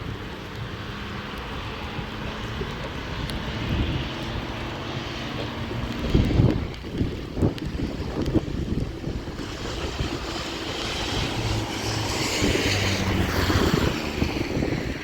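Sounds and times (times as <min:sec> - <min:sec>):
hiss of wind and rain: 0:00.0 - 0:15.0
wind buffeting microphone: 0:00.0 - 0:15.0.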